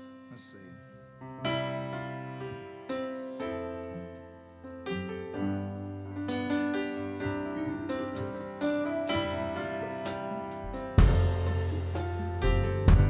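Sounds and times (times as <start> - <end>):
soft keyboard chords: 0.0 - 13.0.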